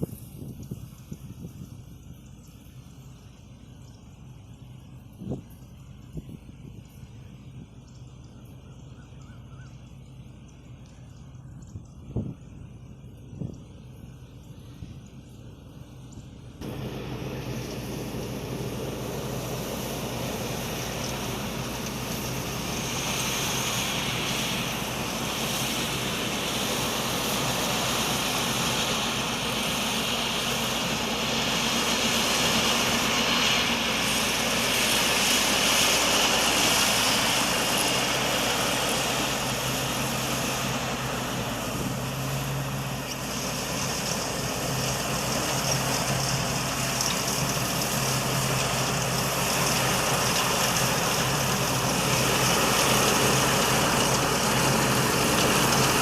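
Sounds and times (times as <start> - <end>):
diesel engine hum: 0.0 - 56.0
threshing machinery whir and rattle: 0.0 - 56.0.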